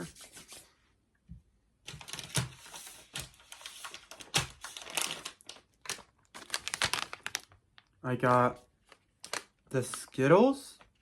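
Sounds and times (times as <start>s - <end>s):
plastic packaging crinkling: 1.9s - 11.0s.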